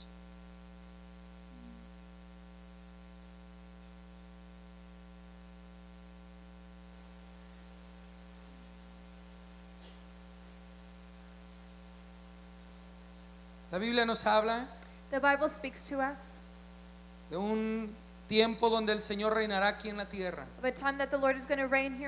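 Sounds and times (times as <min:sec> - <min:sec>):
faint hiss: 0:00.0 - 0:21.9
electrical mains hum: 0:00.0 - 0:22.0.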